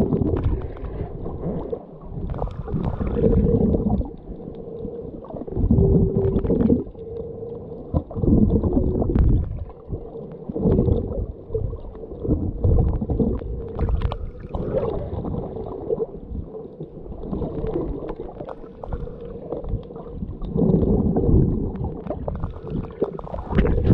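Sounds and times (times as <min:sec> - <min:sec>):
faint steady hum: 0:00.0 - 0:23.9
muffled water sloshing: 0:00.0 - 0:23.9.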